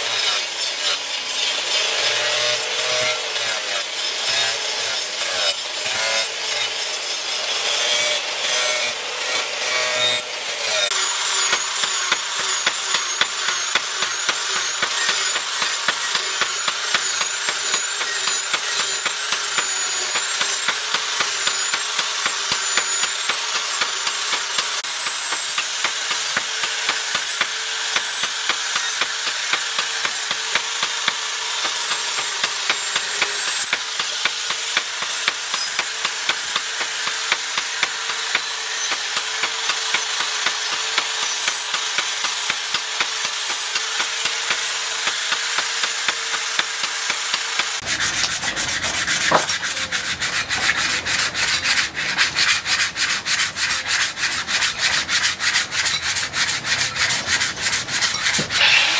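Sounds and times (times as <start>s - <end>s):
angle grinder sanding steel: 0.0s - 58.9s
hand-sanding strokes on blade: 0.0s - 58.9s.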